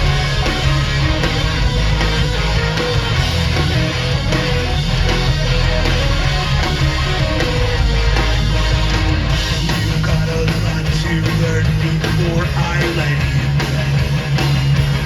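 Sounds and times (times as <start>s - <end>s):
punk rock band playing: 0.0s - 15.0s.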